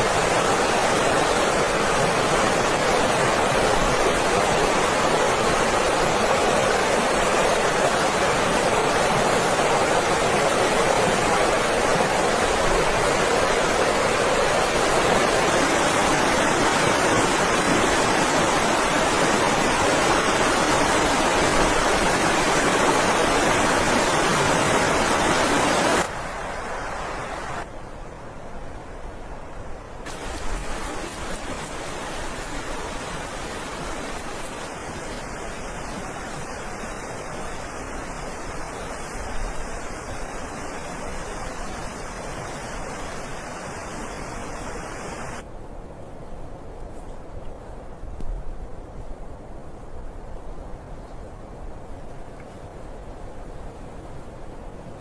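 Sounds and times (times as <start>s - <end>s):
blizzard wind rushing: 0.0s - 47.0s.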